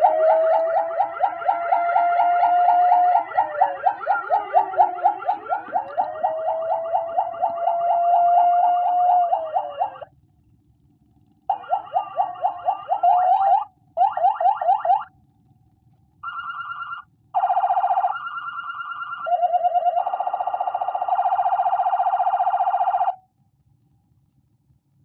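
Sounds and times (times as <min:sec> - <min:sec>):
electronic siren: 0:00.0 - 0:10.1, 0:11.5 - 0:15.1, 0:16.2 - 0:23.2.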